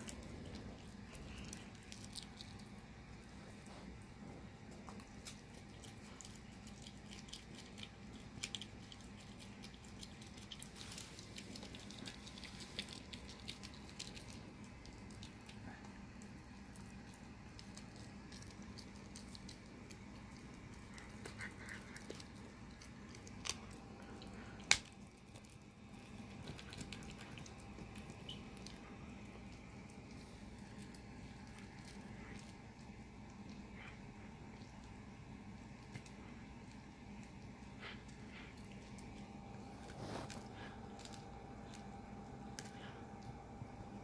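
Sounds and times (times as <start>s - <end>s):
dog chewing: 0.0s - 43.4s.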